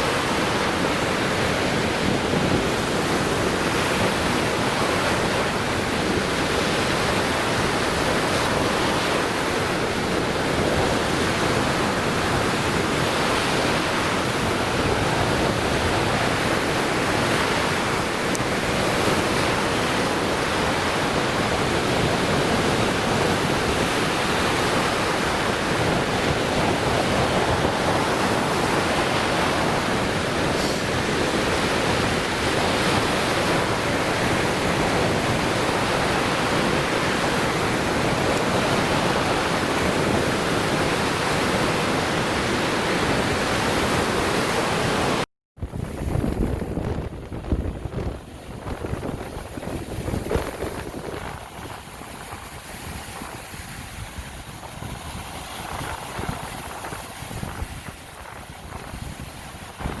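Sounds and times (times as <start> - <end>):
waves breaking on shore: 0.0 - 60.0
wind buffeting microphone: 0.0 - 60.0.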